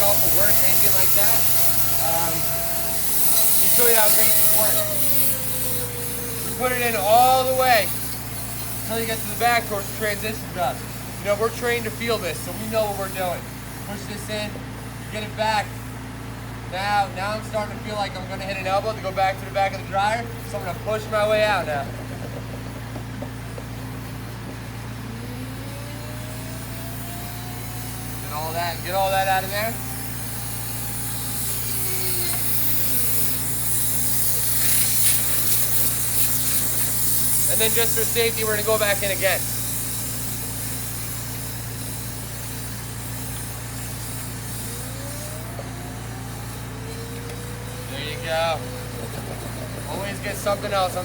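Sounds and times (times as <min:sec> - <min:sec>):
compressed air equipment running: 0:00.0 - 0:51.0
constant low hum: 0:00.0 - 0:51.0.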